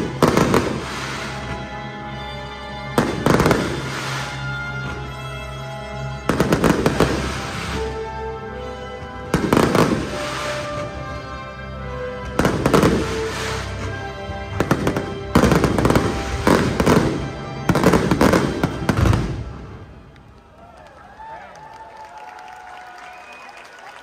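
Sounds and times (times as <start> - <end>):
fireworks crackling bangs: 0.0 - 5.4, 6.1 - 20.4.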